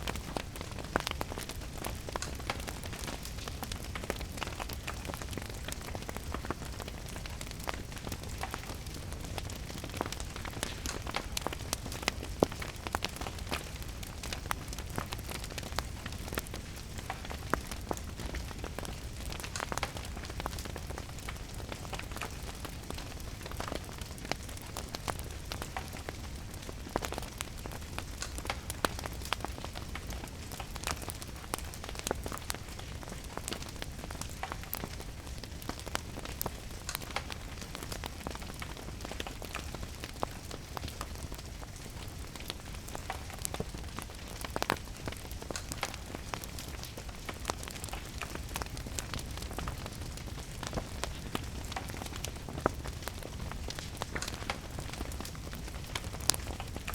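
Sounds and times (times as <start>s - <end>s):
steady rain: 0.0s - 56.9s
wood fire crackling and popping: 0.0s - 56.9s.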